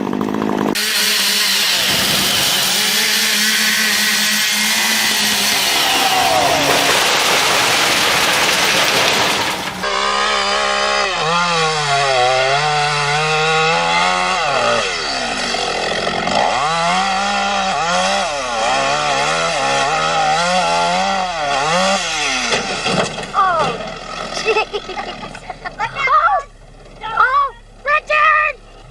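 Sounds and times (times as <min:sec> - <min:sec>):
chainsaw cutting: 0:00.0 - 0:25.9.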